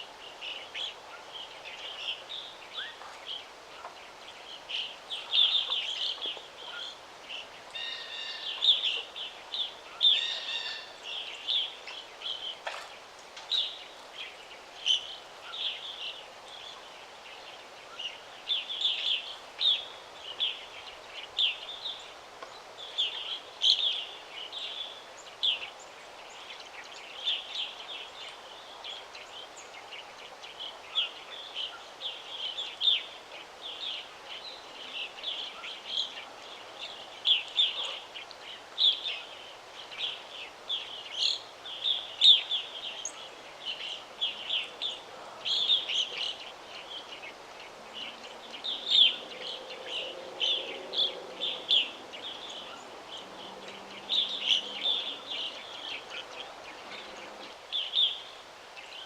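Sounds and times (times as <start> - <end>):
faint background hiss: 0.0 - 59.0
songbirds chirping: 0.0 - 59.0.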